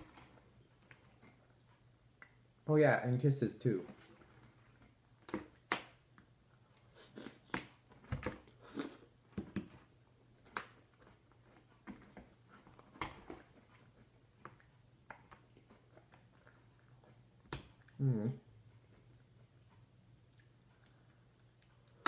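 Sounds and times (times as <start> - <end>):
chewing and mouth smacks: 0.0 - 2.6, 4.1 - 22.0.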